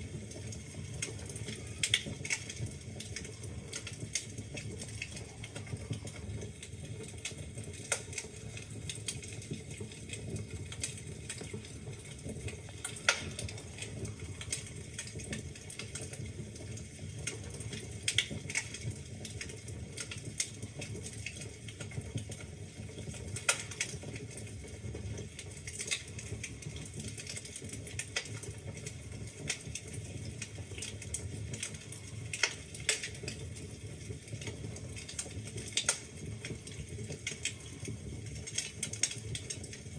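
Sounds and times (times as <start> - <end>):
low rumble of flames: 0.0 - 39.9
logs crackling and popping: 0.1 - 39.9.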